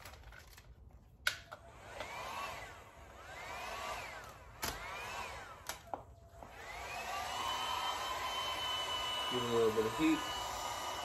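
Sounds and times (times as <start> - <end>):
heat gun fan whining: 1.2 - 11.0.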